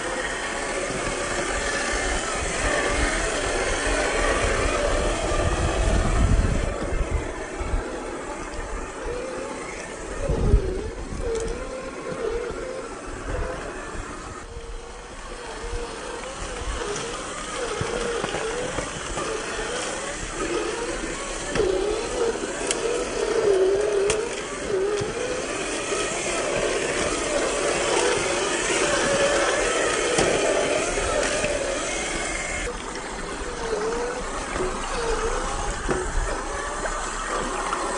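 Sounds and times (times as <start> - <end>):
electric motor whining: 0.0 - 37.9.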